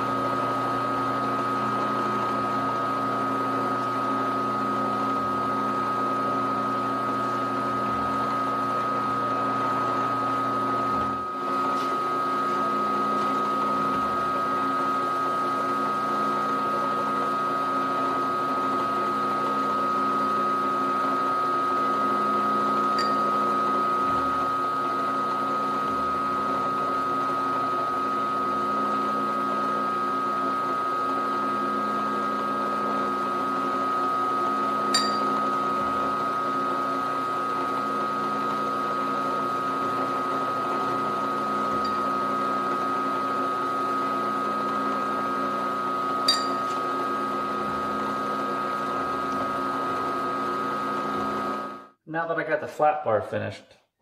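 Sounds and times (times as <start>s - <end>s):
milling machine spindle whining: 0.0s - 51.8s.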